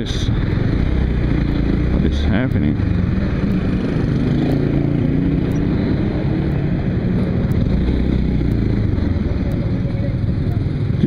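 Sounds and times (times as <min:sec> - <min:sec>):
constant rush of noise: 0:00.0 - 0:11.0
motorcycle engine running: 0:00.0 - 0:11.0.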